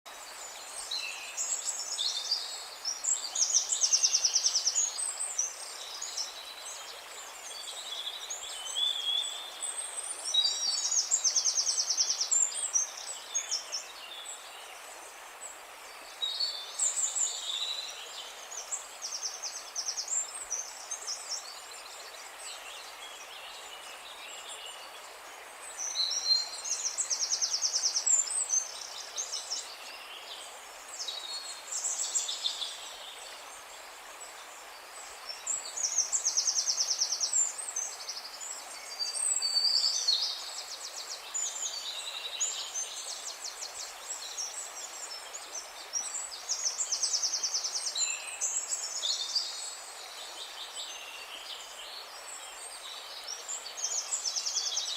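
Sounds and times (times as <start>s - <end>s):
background hiss: 0.1s - 54.9s.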